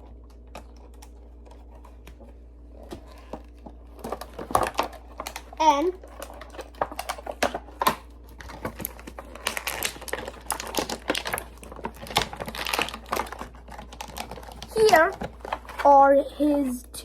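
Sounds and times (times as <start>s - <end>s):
plastic packaging crinkling: 0.0s - 16.6s.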